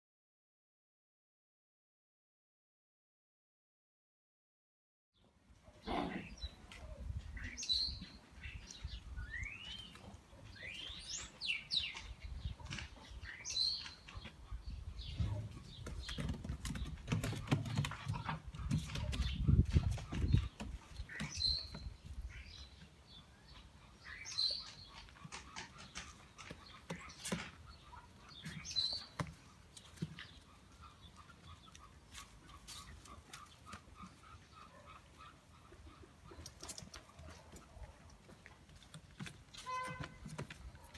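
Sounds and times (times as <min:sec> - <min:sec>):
small birds chirping: 0:05.2 - 0:40.9.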